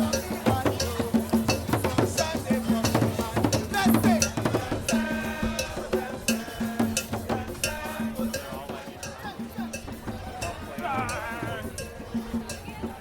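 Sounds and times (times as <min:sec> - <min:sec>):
drum beat: 0:00.0 - 0:13.0.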